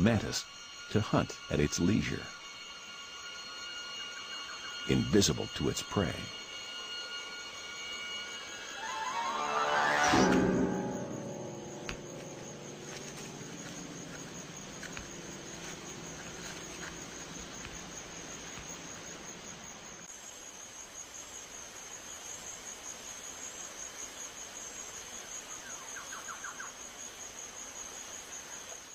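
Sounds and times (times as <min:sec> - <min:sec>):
insects trilling: 0:00.0 - 0:28.9
quick insect chirps: 0:00.0 - 0:28.9.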